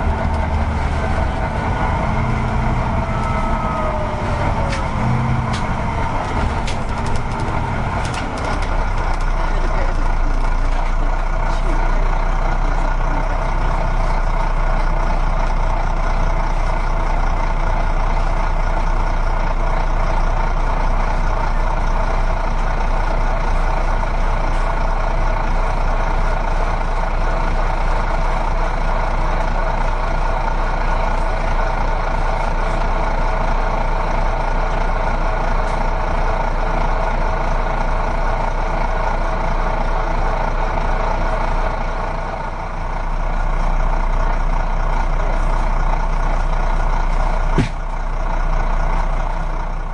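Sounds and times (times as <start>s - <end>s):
heavy truck engine running: 0.0s - 49.9s.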